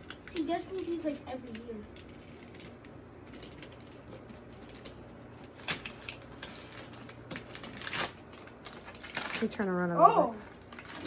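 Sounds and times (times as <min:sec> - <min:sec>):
wrapping paper rustling: 0:00.2 - 0:11.0.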